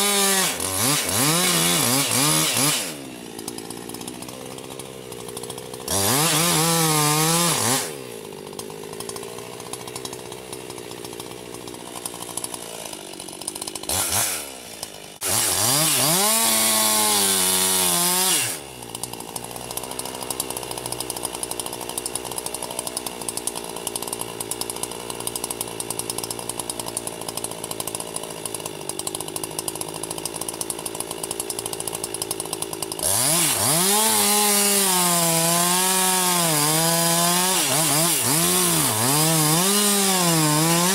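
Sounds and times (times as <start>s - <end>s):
chainsaw cutting into tree: 0.0s - 40.9s.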